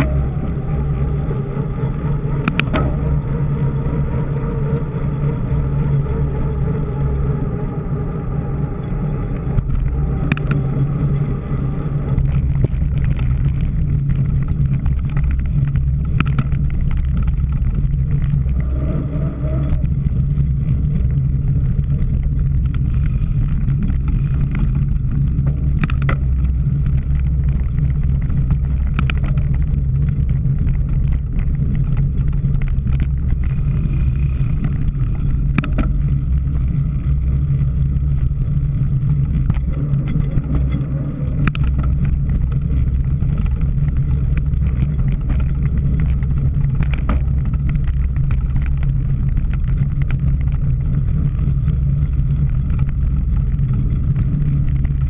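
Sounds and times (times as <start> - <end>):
bike clicks and rattles: 0.0 - 55.0
bike tyre noise: 0.0 - 55.0
wind buffeting: 0.0 - 55.0.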